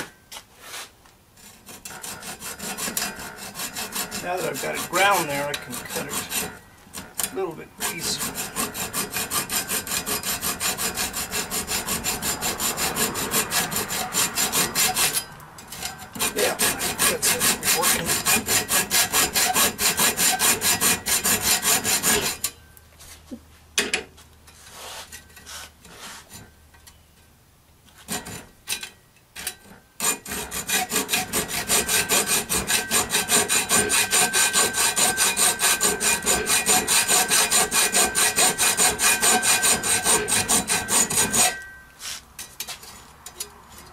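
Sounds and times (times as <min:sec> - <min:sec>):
hacksaw cutting steel: 0:01.4 - 0:22.6, 0:28.0 - 0:43.9.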